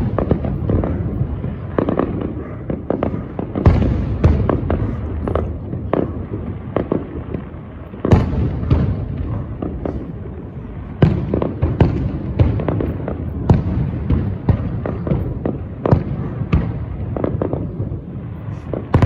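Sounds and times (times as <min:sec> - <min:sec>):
continuous rumble: 0:00.0 - 0:19.0
fireworks bangs and cracks: 0:00.0 - 0:19.0.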